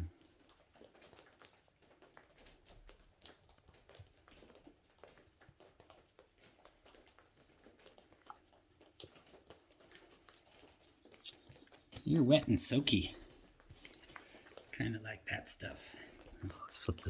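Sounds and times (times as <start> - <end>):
faint ticks and taps: 0.0 - 17.0.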